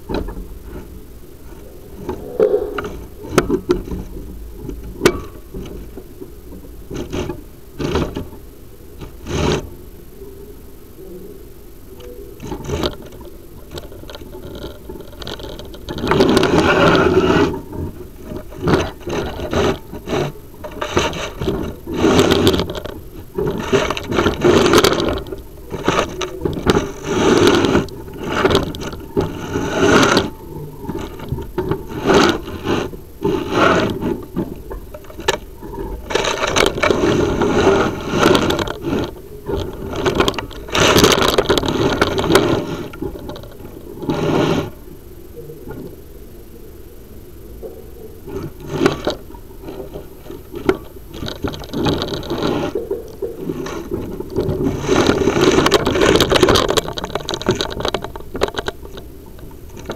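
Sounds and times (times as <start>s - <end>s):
camera scraping inside chimney flue: 0.0s - 59.9s.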